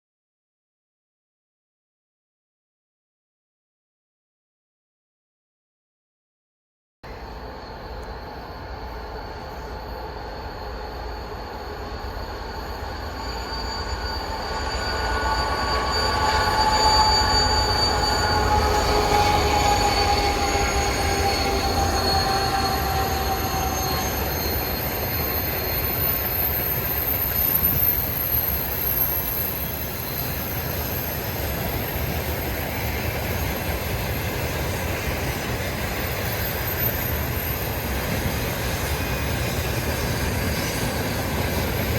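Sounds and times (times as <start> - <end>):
diesel locomotive passing: 7.1 - 41.9
train wheels on rails: 7.1 - 41.9
locomotive whistle: 8.0 - 41.9.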